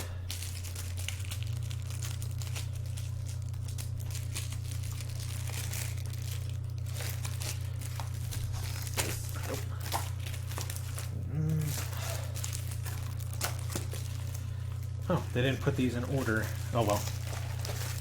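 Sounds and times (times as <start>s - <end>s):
low electrical hum: 0.0s - 18.0s
packaging crinkling and rustling: 0.0s - 18.0s.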